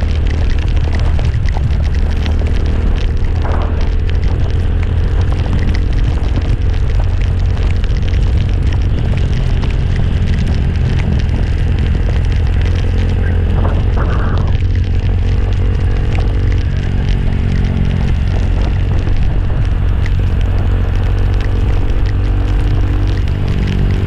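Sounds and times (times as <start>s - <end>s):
motorcycle engine running: 0.0s - 24.0s
small ticks of road noise: 0.0s - 24.0s
wind rumble on microphone: 0.0s - 24.0s.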